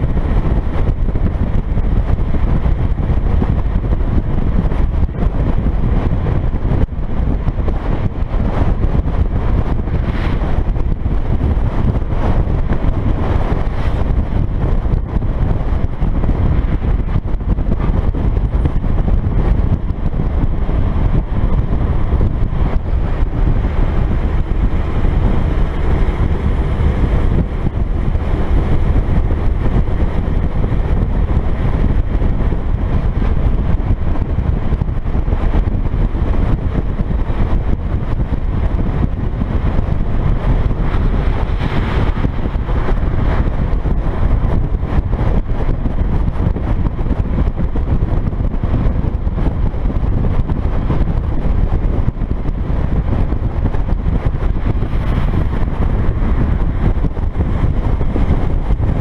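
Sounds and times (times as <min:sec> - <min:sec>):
truck engine and tyres rumbling: 0:00.0 - 0:59.0
wind buffeting microphone: 0:00.0 - 0:59.0.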